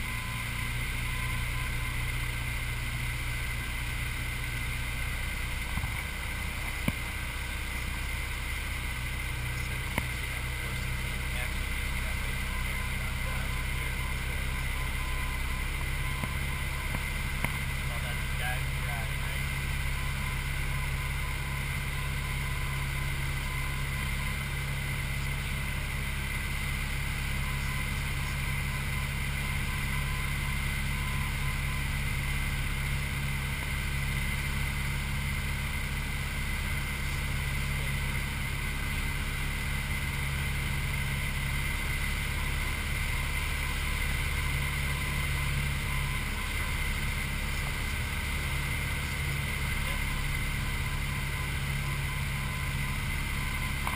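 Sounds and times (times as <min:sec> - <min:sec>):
propeller aircraft engine drone: 0:00.0 - 0:53.9.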